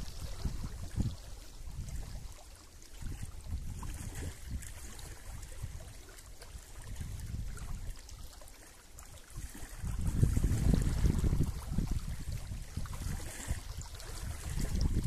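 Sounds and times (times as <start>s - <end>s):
wind rumbling on microphone: 0.0s - 8.4s, 9.3s - 15.0s
waves lapping on stones: 0.0s - 15.0s.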